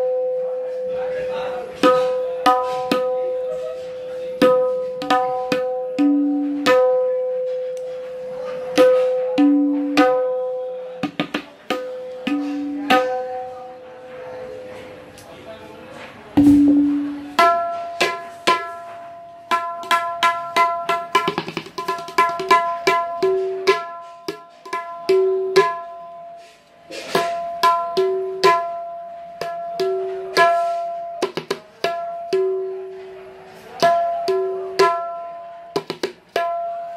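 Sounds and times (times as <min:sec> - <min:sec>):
tabla drum strokes: 0:00.0 - 0:14.7, 0:16.4 - 0:36.9.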